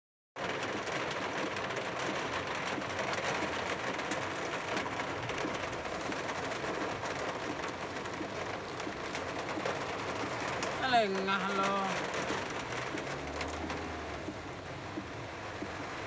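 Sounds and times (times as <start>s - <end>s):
heavy rain on car roof: 0.4s - 16.0s.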